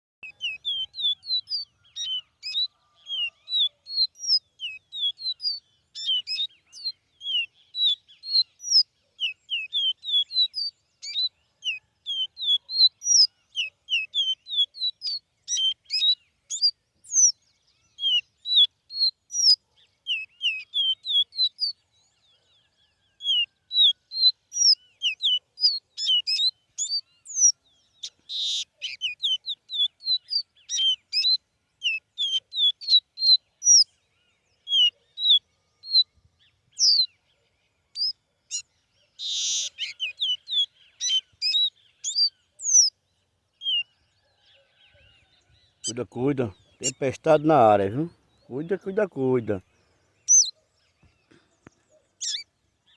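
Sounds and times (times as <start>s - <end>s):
songbird chirping: 0.2s - 52.9s.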